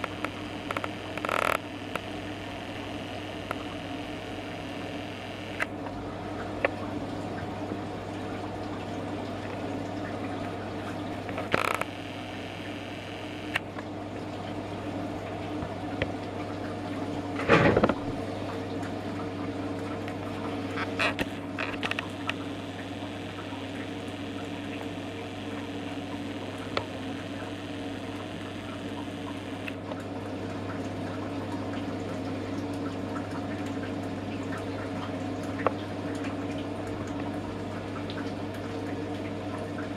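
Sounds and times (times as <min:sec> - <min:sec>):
pot still humming: 0:00.0 - 0:15.8, 0:18.2 - 0:39.9
liquid trickling: 0:00.0 - 0:39.9.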